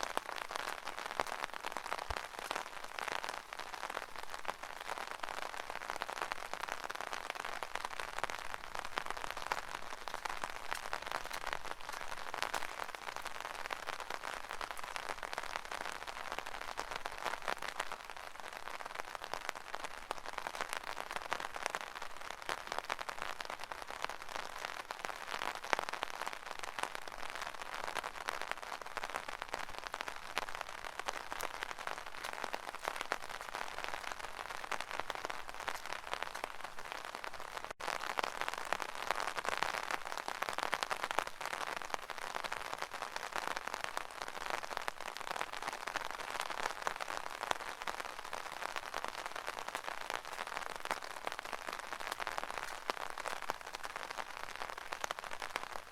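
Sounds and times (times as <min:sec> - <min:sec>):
rain on an umbrella: 0:00.0 - 0:55.9.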